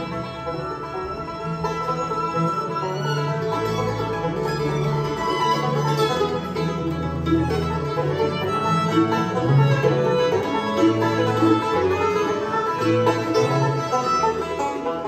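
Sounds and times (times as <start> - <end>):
upright bass: 0.0 - 14.9
banjo rolling: 0.0 - 15.0
fiddle: 0.0 - 15.0
guitar: 0.0 - 15.0.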